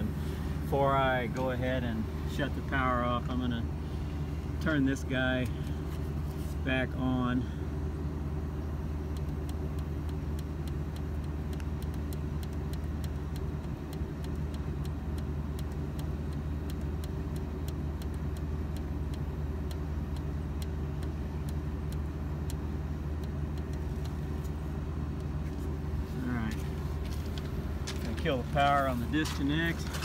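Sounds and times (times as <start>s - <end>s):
air conditioner unit humming: 0.0s - 30.0s.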